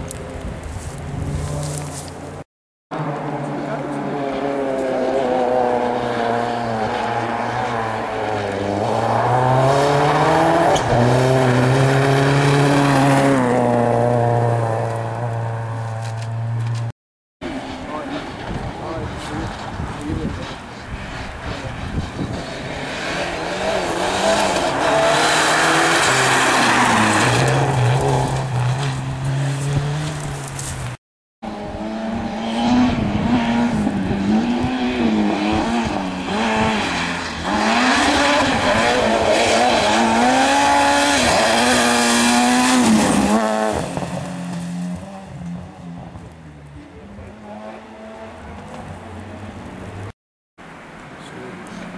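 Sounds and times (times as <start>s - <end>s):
rally car engines revving: 2.9s - 30.7s, 31.4s - 50.1s.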